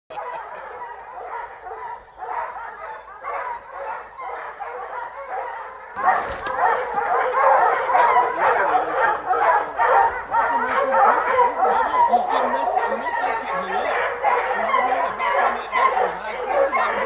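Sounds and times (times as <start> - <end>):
hounds baying and barking: 0.1 - 17.0.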